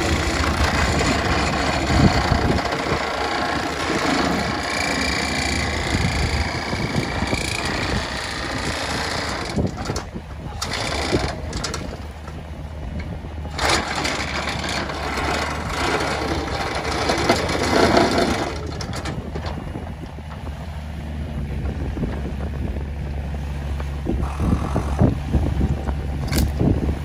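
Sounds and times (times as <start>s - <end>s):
vibratory pile driver rattling buzz: 0.0s - 12.2s, 13.5s - 20.5s, 24.1s - 26.7s
excavator diesel engine running: 0.0s - 27.0s.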